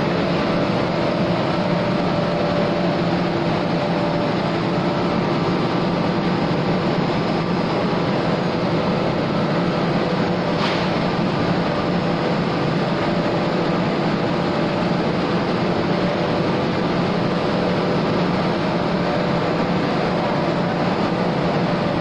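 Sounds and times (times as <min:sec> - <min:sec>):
printing machine running: 0:00.0 - 0:22.0.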